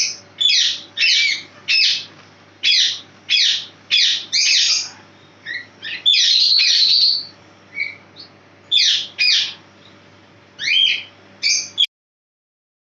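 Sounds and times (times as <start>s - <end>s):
small bird chirping: 0.0s - 11.9s.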